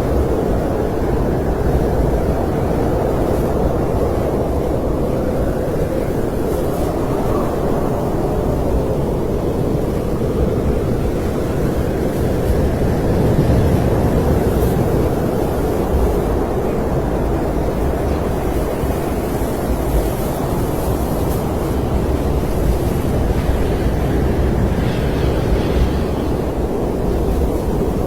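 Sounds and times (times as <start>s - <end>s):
wind blowing: 0.0s - 28.0s.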